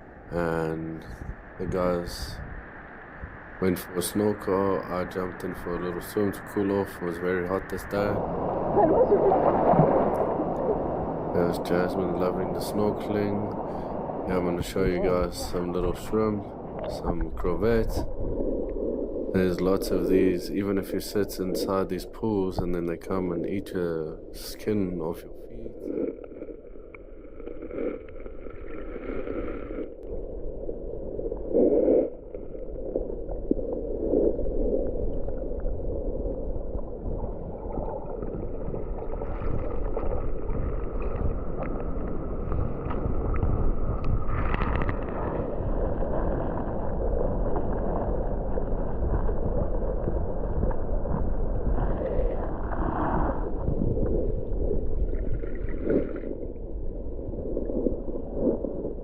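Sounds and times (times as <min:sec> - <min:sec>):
low rumble: 0:00.0 - 0:59.0
muffled water gurgling: 0:00.0 - 0:59.0
water splashes: 0:00.3 - 0:59.0.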